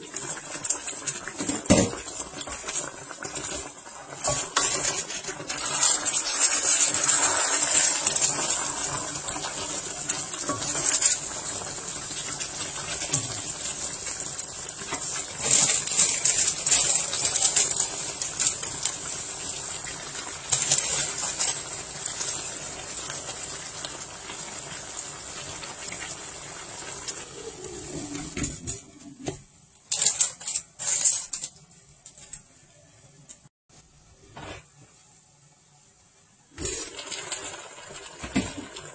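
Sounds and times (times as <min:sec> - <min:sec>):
sauce simmering and sizzling: 0:00.0 - 0:29.2, 0:35.6 - 0:38.9.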